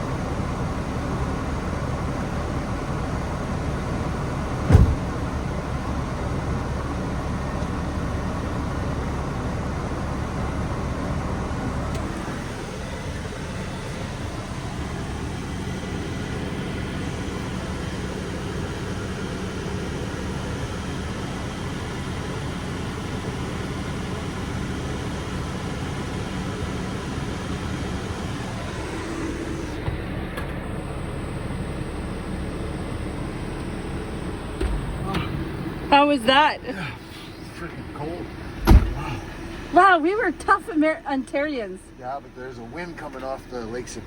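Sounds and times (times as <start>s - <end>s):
van engine idling: 0.0s - 44.0s.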